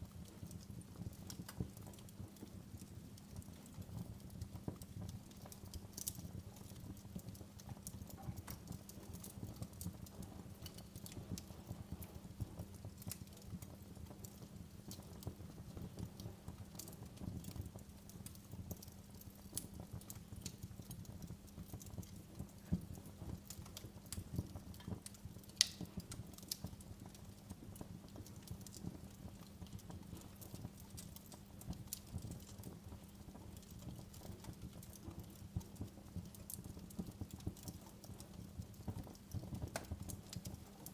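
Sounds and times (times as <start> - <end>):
fire low rumble: 0.0 - 40.9
wood fire crackling: 0.0 - 40.9.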